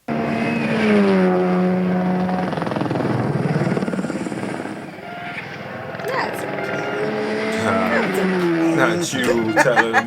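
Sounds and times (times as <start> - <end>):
rally car engine revving: 0.0 - 9.9.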